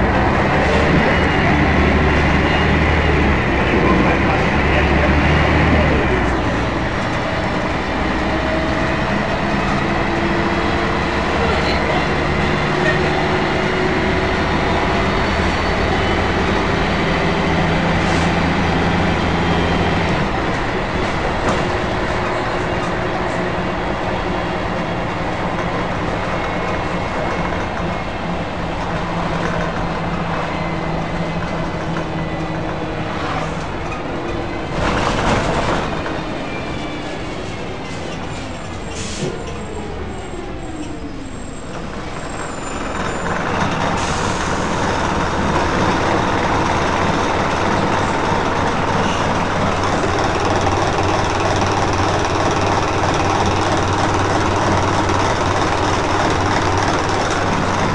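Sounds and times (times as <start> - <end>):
bus diesel engine: 0.0 - 57.9.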